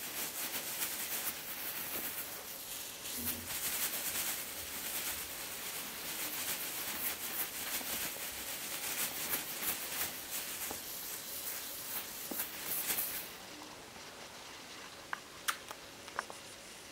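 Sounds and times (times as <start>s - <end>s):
foil cat toy rustling on fabric: 0.0s - 14.8s.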